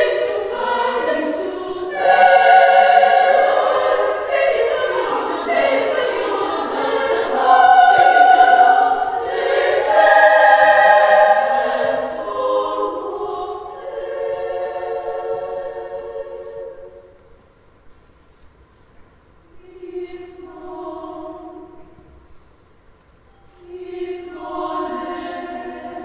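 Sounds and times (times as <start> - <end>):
women's choir singing: 0.0 - 17.2, 19.5 - 22.1, 23.6 - 26.0.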